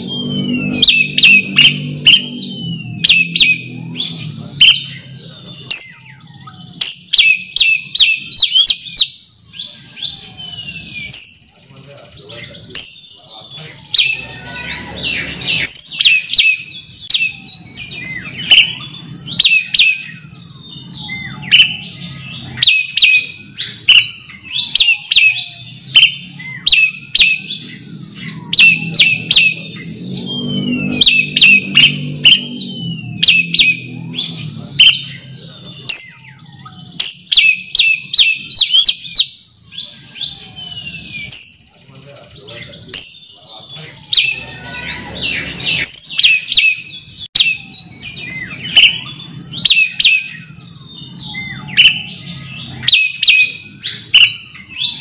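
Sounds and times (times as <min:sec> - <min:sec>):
bird singing whistled notes: 0:00.0 - 0:55.0.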